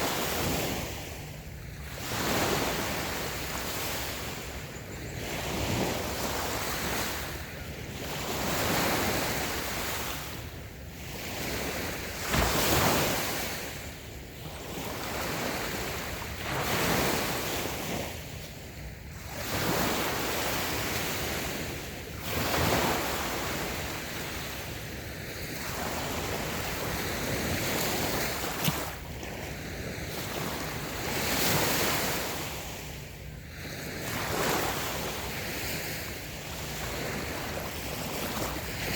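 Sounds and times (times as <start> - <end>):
waves breaking on beach: 0.0 - 38.9
wind rumble on microphone: 0.0 - 38.9.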